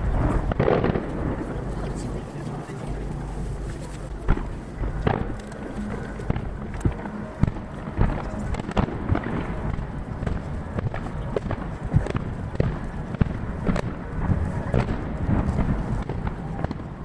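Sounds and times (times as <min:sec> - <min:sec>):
continuous rumble: 0:00.0 - 0:17.0
distant fireworks bursting: 0:00.0 - 0:17.0.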